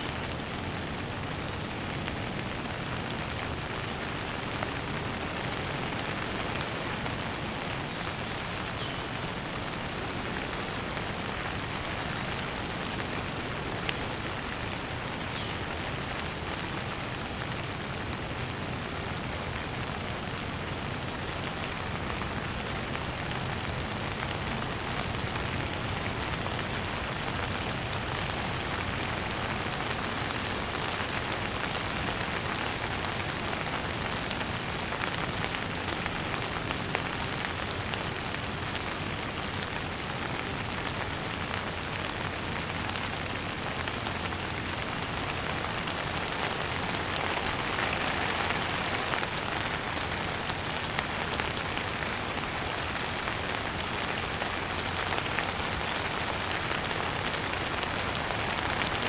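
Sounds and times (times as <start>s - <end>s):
light rain hissing: 0.0s - 59.0s.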